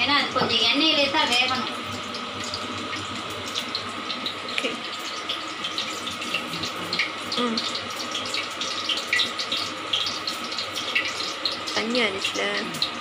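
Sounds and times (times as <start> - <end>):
gas stove burner hissing: 0.0 - 13.0
oil crackling: 0.6 - 13.0.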